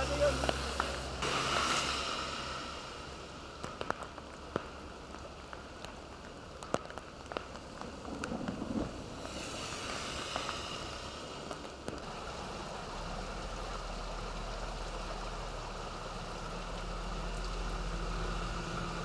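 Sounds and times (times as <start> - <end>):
heavy rain hiss: 0.0 - 19.0
raindrops ticking on surfaces: 0.0 - 19.0.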